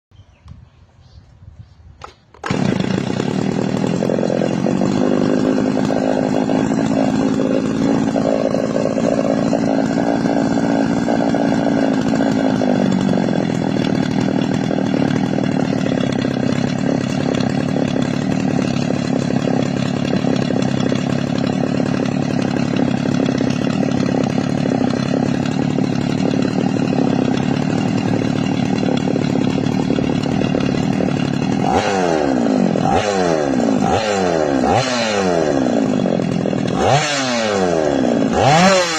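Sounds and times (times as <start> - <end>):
chainsaw engine screaming: 2.0 - 38.9.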